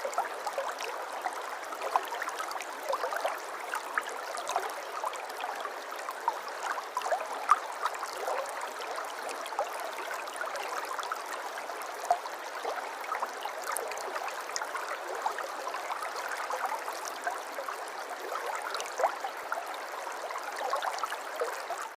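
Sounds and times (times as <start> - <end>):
stream babbling over rocks: 0.0 - 22.0.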